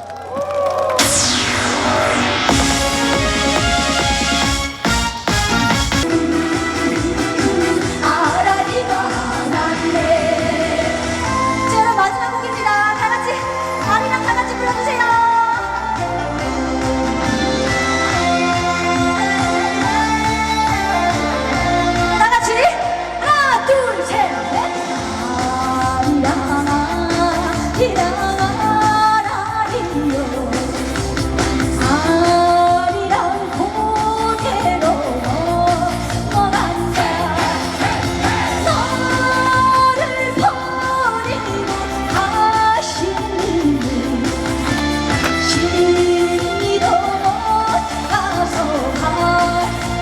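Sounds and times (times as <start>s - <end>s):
backing track with steady beat: 0.9s - 50.0s
woman singing: 6.1s - 50.0s.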